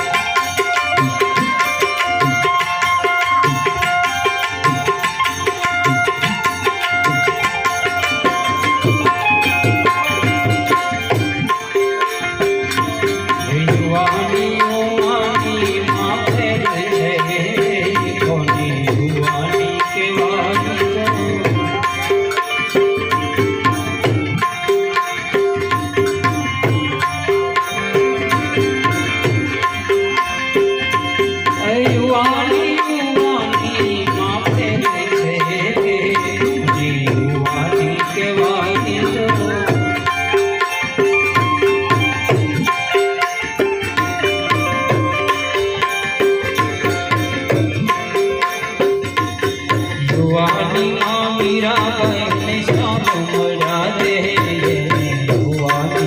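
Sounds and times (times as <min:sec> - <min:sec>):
harmonium held tones: 0:00.0 - 0:56.0
tabla rhythm: 0:00.0 - 0:56.0.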